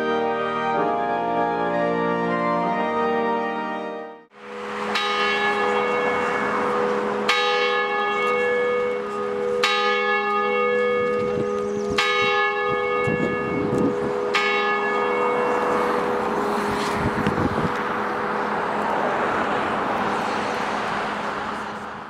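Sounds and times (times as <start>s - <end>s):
church bell tolling: 0.0s - 18.8s.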